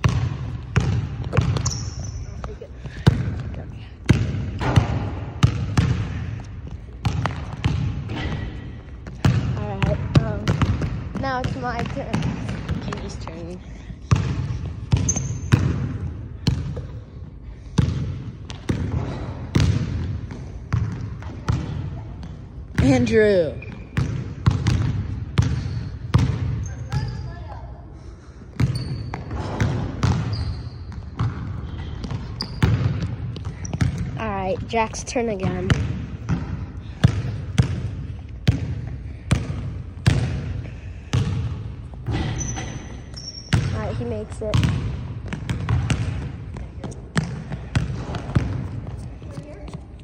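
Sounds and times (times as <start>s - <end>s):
basketball bouncing on wooden floor: 0.0s - 13.5s, 14.1s - 16.9s, 17.7s - 27.2s, 28.6s - 49.9s.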